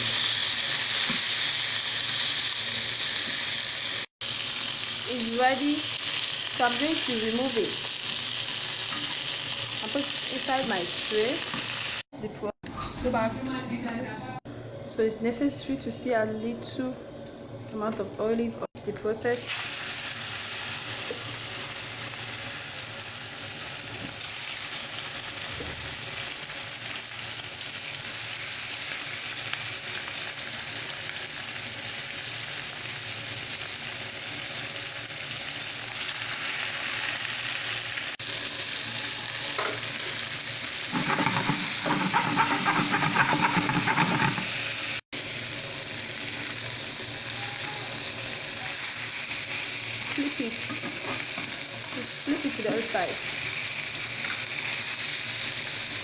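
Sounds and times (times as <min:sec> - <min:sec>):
meat sizzling in oil: 0:00.0 - 0:12.1, 0:19.2 - 0:56.0.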